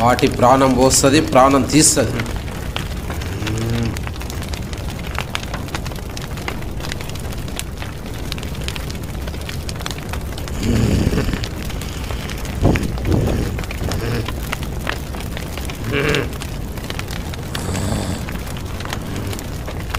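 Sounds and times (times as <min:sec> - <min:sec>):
wind rumbling on microphone: 0:01.2 - 0:19.9.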